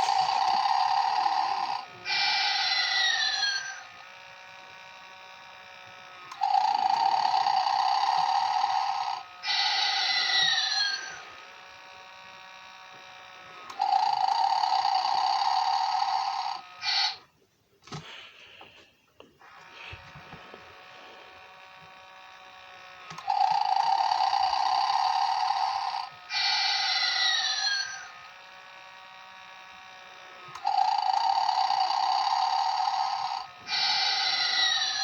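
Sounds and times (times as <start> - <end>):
toy snoring buzzily: 0.0 - 17.3, 17.9 - 35.0
faint steady hum: 0.0 - 35.0.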